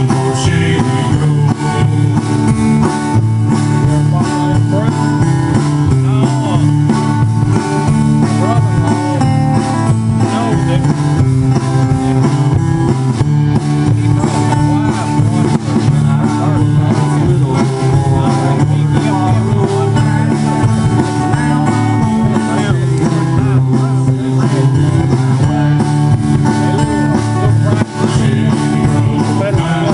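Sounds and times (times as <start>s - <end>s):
acoustic guitars strummed: 0.0s - 29.9s
drum kit steady beat: 0.0s - 29.9s
upright bass: 0.0s - 29.9s.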